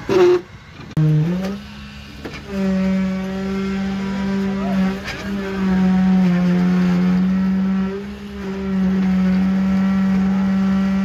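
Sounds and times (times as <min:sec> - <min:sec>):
concrete vibrator motor hum: 0:00.0 - 0:11.0.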